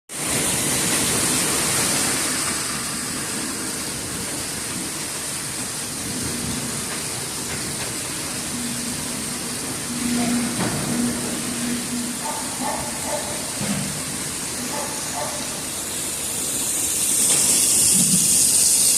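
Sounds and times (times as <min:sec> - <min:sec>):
washing machine running: 0:00.1 - 0:18.9.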